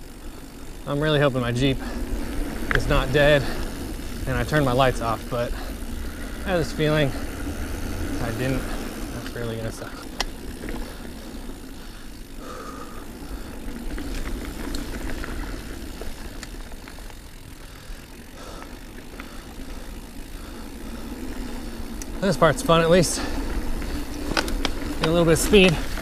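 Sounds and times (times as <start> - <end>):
bike clicks and rattles: 0.0 - 26.0
bike tyres rumbling on dirt: 0.0 - 26.0.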